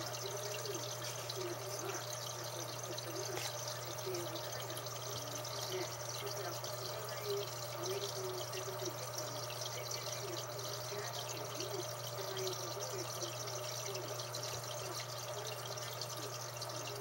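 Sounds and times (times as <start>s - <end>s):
air pump hum: 0.0s - 17.0s
water trickling and bubbling: 0.0s - 17.0s.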